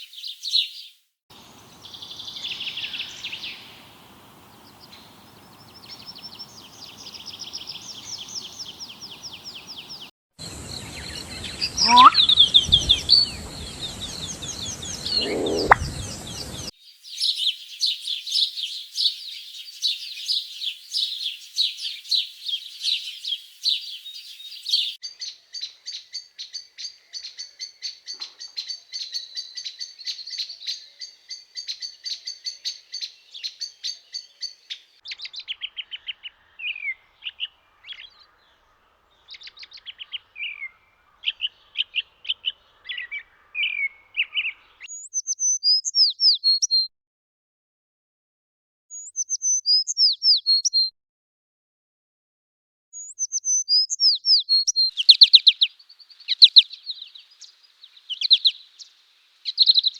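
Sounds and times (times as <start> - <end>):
small birds chirping: 0.0 - 46.9, 48.9 - 50.9, 53.0 - 59.9.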